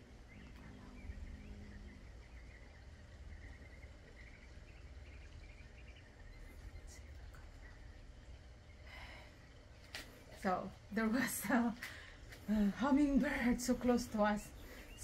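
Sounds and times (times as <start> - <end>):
low rumble: 0.0 - 13.8.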